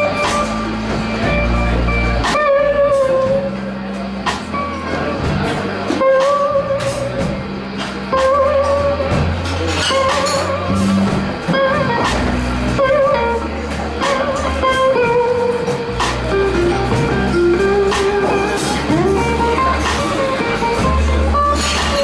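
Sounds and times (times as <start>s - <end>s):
bass guitar: 0.0s - 22.0s
drums: 0.0s - 22.0s
electric lead guitar bent notes: 0.0s - 22.0s.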